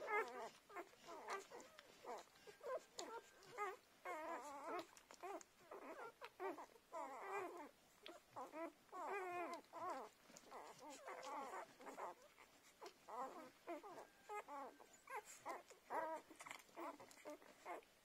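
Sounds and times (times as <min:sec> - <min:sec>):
puppies squeaking and whimpering: 0:00.0 - 0:18.0.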